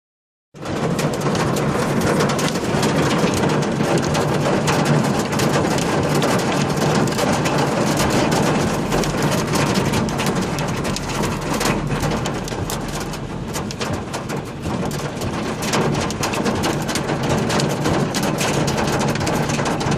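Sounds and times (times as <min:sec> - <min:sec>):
hailstones clattering on surfaces: 0:00.6 - 0:19.9.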